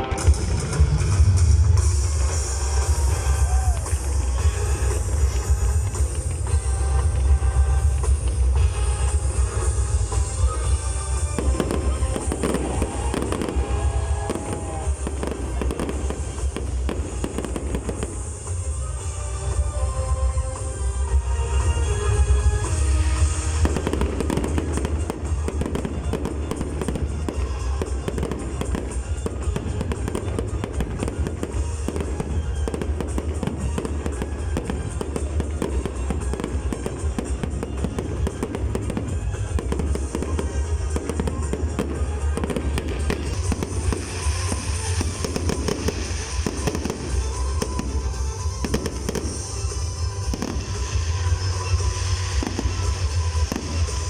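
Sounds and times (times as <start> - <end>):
fireworks bangs and crackles: 0.0 - 54.0
music playing: 0.0 - 54.0.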